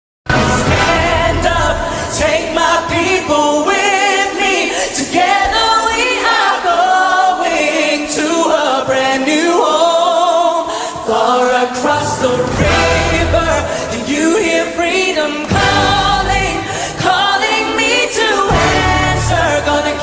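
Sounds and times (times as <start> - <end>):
singers' voices with vibrato: 0.3 - 20.0.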